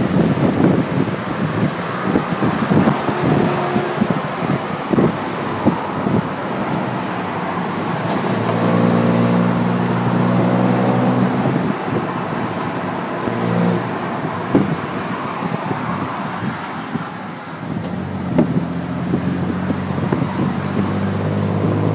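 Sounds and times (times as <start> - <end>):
tuk-tuk engine droning: 0.0 - 21.9
wind and road noise: 0.0 - 21.9.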